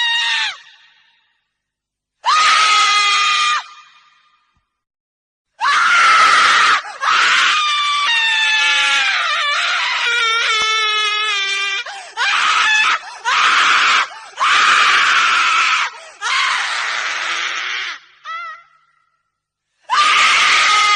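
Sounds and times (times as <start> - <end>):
woman screaming: 0.0 - 0.9, 2.2 - 4.0, 5.6 - 18.9, 19.9 - 20.9.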